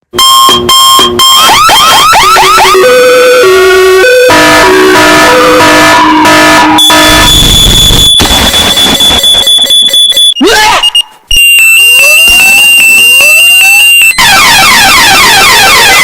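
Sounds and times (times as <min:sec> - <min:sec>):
distorted electronic alarm: 0:00.2 - 0:16.0.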